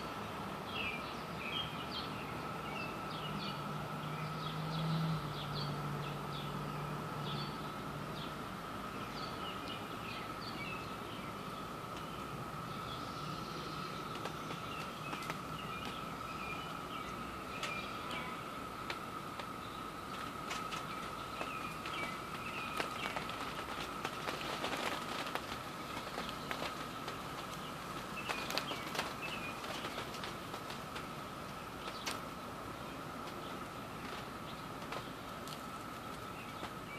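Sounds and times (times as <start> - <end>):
birds chirping: 0.0 - 36.9
cicadas droning: 0.0 - 36.9.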